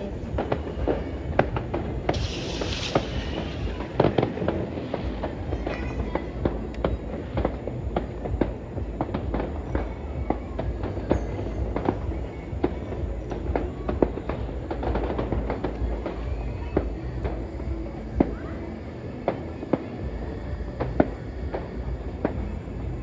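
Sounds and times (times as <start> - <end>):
continuous low rumble: 0.0 - 23.0
fireworks bangs and pops: 0.0 - 23.0.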